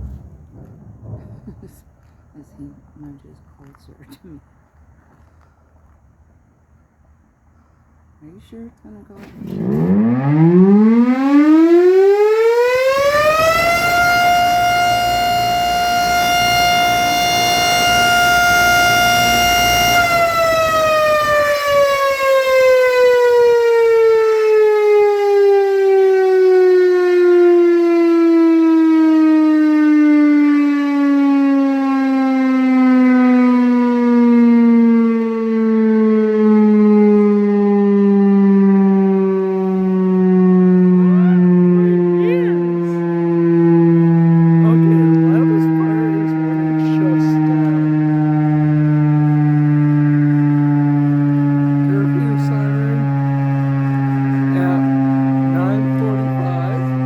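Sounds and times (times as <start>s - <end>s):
loud warning siren: 0.0s - 2.2s, 9.1s - 57.0s.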